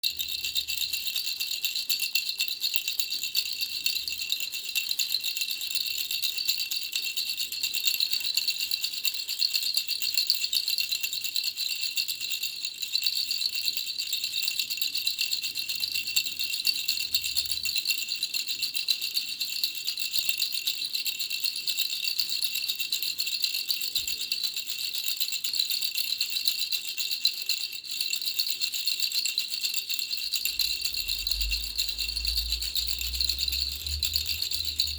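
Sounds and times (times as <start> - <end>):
baby rattle shaking: 0.0 - 34.9.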